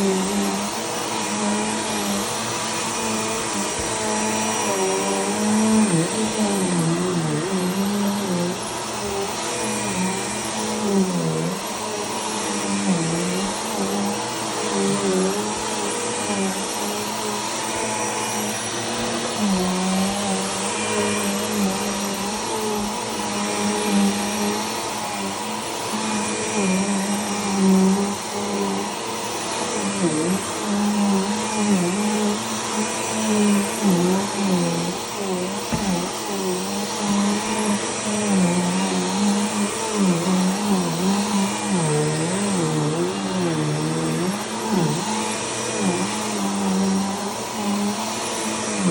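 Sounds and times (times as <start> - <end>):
upright vacuum cleaner running: 0.0 - 48.9.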